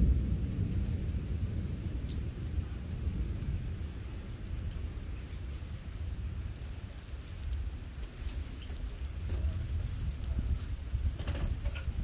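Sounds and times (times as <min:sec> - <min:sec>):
low thunder rumble: 0:00.0 - 0:12.0
rain falling: 0:00.0 - 0:12.0
raindrops ticking nearby: 0:00.0 - 0:12.0.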